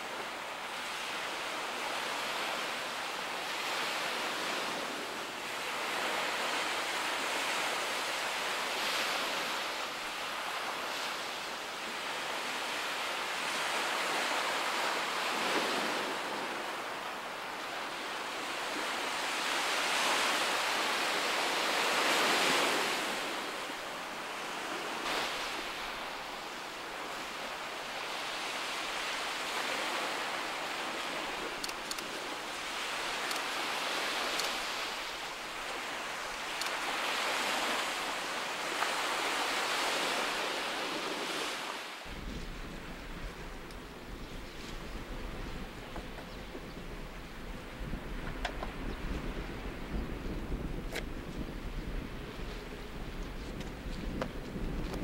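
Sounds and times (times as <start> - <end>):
sea waves washing on shore: 0.0 - 55.0.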